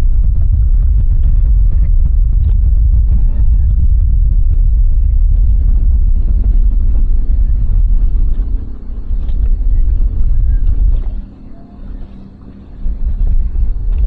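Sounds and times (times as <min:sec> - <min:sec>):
boat engine humming: 0:00.0 - 0:14.0
wind buffeting microphone: 0:00.0 - 0:14.0.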